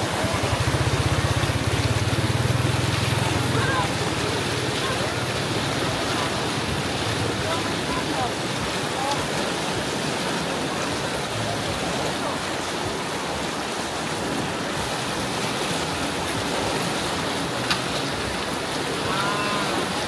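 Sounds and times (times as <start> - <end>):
fast-flowing water: 0.0 - 20.0.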